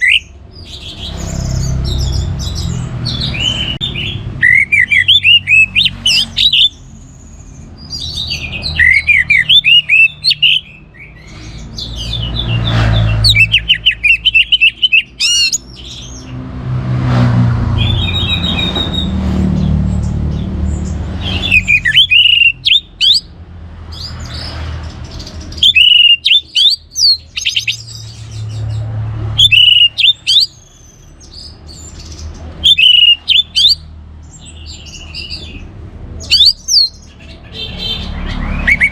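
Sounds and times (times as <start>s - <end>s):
thrush singing: 0.0s - 7.0s, 7.6s - 16.5s, 17.5s - 23.4s, 25.5s - 30.7s, 32.5s - 33.9s, 34.6s - 38.9s.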